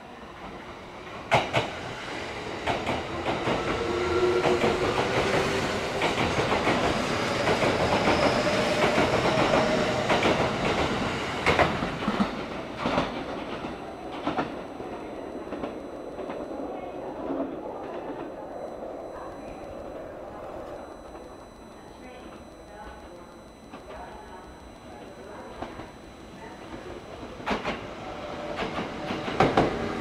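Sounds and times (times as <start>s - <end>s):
faint train motor whine: 1.1s - 30.0s.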